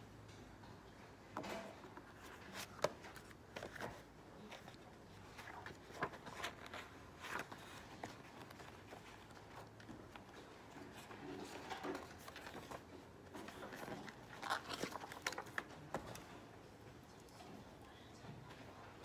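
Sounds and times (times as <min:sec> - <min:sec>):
book pages rustling: 0:01.9 - 0:17.3.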